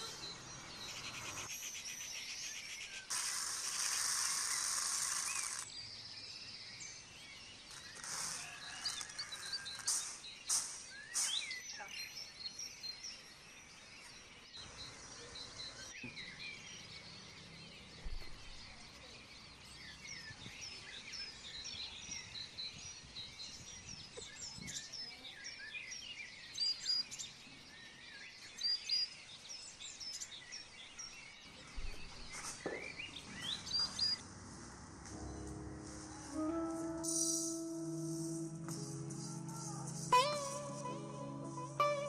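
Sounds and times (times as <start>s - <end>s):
many birds chirping: 0.0s - 34.2s
steady outdoor background: 0.0s - 42.0s.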